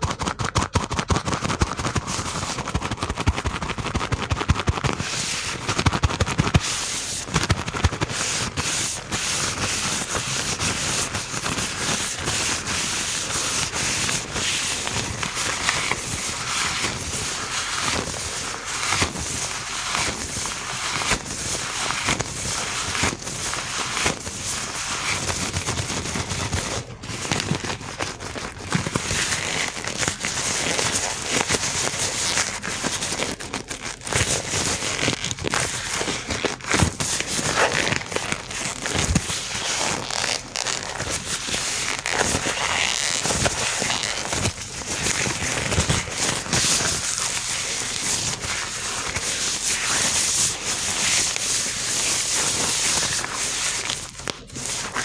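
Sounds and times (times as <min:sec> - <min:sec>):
gloved hands rubbing and crinkling: 0:00.0 - 0:55.0.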